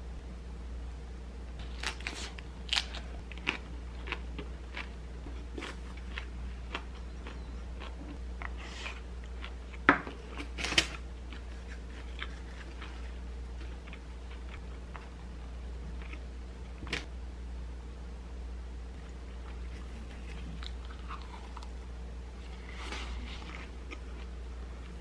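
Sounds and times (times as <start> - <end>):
low steady hum: 0.0 - 25.0
crunchy chewing: 1.6 - 16.3, 19.0 - 25.0.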